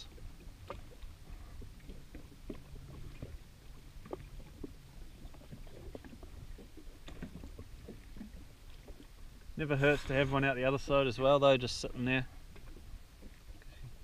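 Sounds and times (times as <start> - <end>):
low steady rumble: 0.0 - 14.0
waves lapping against hull: 0.0 - 14.0.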